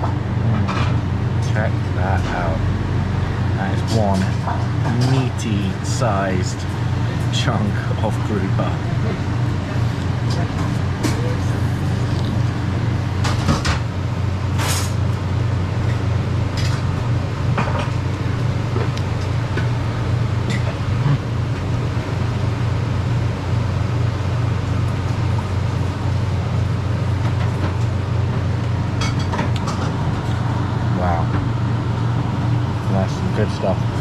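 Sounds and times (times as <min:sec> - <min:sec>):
low background hum: 0:00.0 - 0:34.0.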